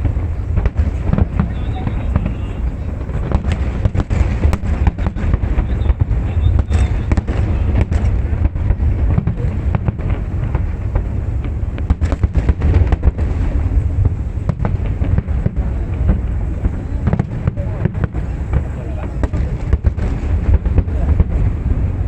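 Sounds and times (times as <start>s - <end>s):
fireworks bangs and crackles: 0.0s - 22.0s
low rumble of shell bursts: 0.0s - 22.0s.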